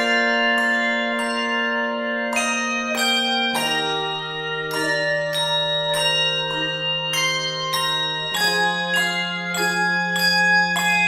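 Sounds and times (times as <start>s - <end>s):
handbell choir ringing chords: 0.0s - 11.0s.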